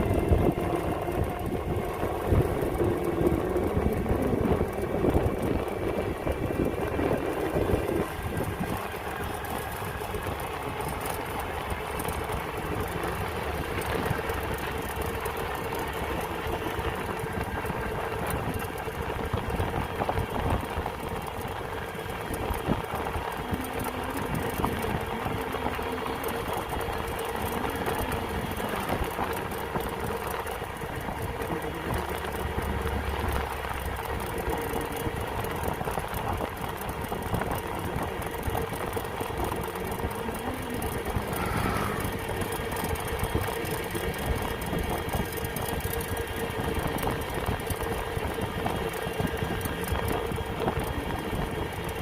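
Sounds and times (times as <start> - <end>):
engine running steadily: 0.0 - 52.0.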